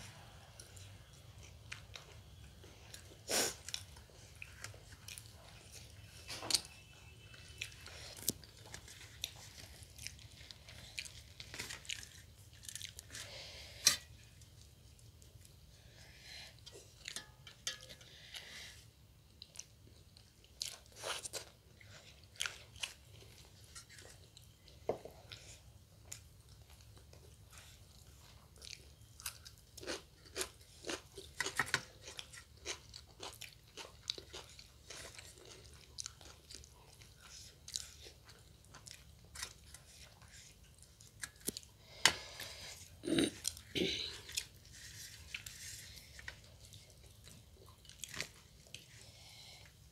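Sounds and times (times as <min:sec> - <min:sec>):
people chewing and crunching: 0:00.0 - 0:49.9.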